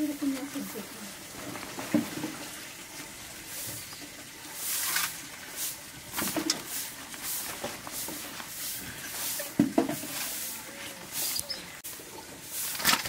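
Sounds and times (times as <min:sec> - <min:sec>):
leaf wrapping rustling and crinkling: 0:00.0 - 0:13.0.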